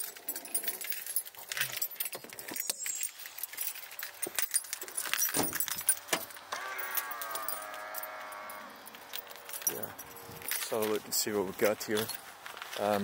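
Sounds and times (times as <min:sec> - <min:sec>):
keys jangling: 0:00.0 - 0:12.3.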